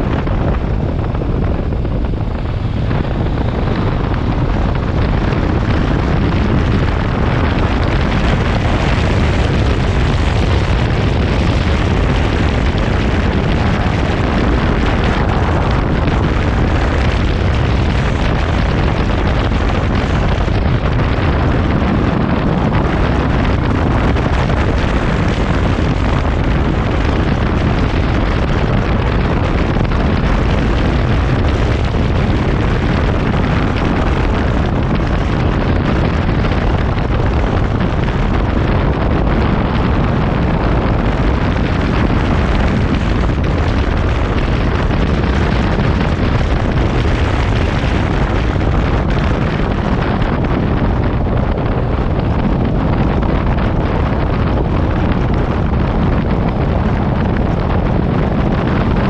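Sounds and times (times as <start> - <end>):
motorcycle engine and tyre noise: 0.0 - 59.0
wind buffeting microphone: 0.0 - 59.0.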